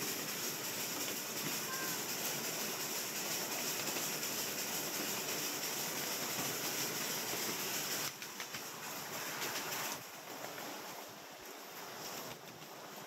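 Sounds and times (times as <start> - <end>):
steam engine hiss and rumble: 0.0 - 13.0.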